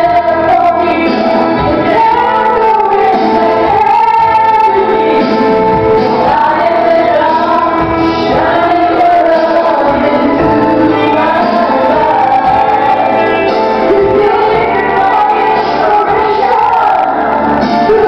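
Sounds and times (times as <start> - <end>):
backing music: 0.0 - 18.0
woman singing karaoke: 0.0 - 18.0.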